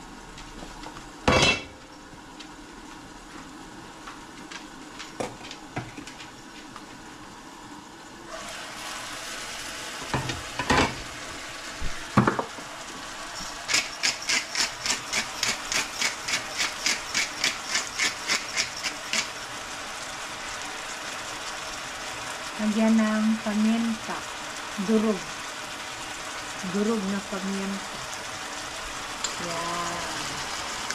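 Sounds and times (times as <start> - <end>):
food sizzling in a skillet: 6.0 - 30.9.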